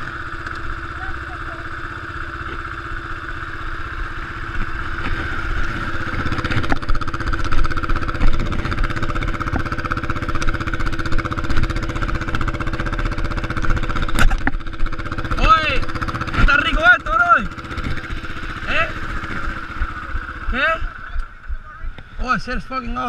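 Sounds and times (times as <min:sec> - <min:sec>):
quad engine idling: 0:00.0 - 0:23.0.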